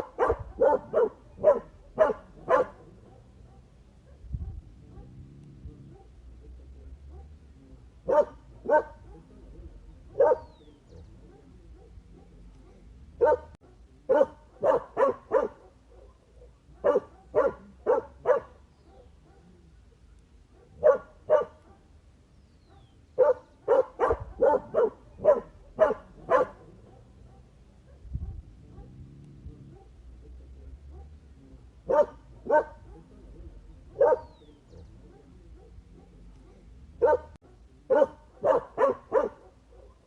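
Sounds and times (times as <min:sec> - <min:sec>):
dog barking: 0:00.0 - 0:22.0, 0:22.6 - 0:40.0.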